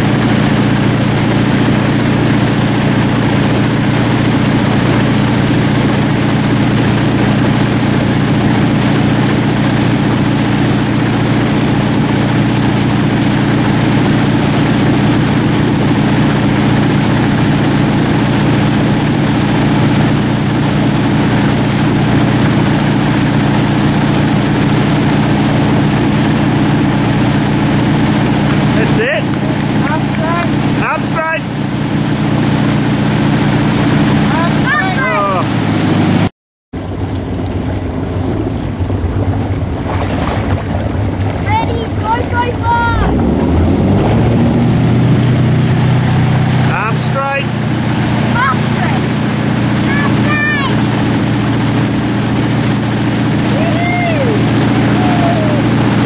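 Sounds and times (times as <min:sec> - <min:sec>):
boat engine running: 0:00.0 - 0:56.0
wind and water rushing: 0:00.0 - 0:56.0.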